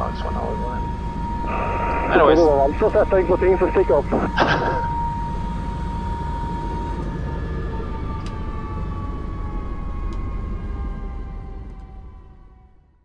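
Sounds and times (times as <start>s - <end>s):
high turbine whine: 0.0s - 12.6s
helicopter rotor and engine rumble: 0.0s - 12.8s.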